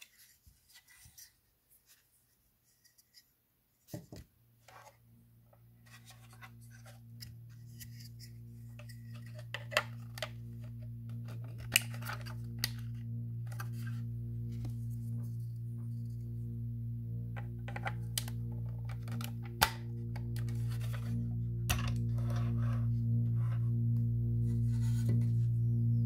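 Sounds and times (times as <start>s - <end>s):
low musical drone: 5.0s - 26.0s.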